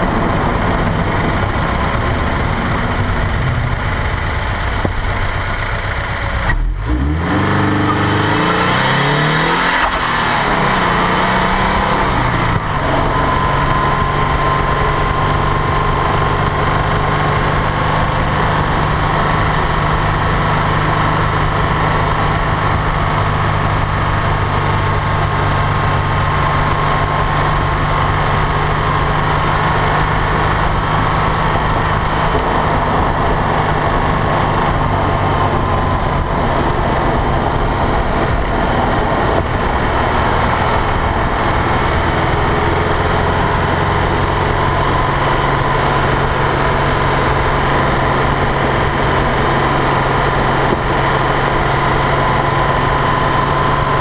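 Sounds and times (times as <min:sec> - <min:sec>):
car engine cruising: 0:00.0 - 0:54.0
wind and road noise: 0:00.0 - 0:54.0.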